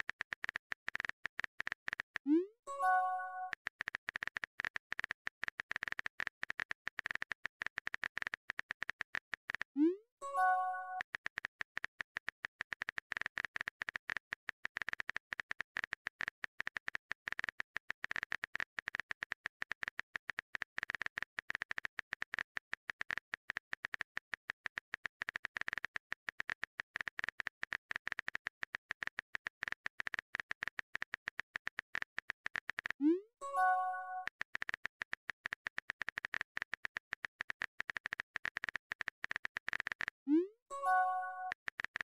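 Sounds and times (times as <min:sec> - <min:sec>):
phone keyboard typing clicks: 0:02.9 - 0:09.7, 0:10.5 - 0:40.2.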